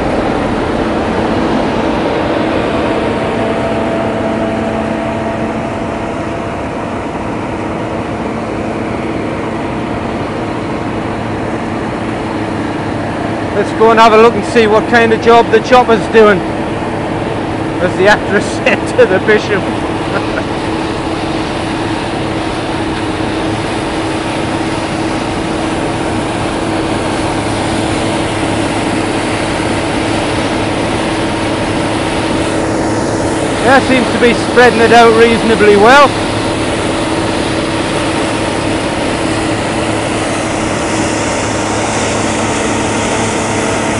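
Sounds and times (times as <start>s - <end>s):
vehicle engine droning: 0.0s - 43.9s.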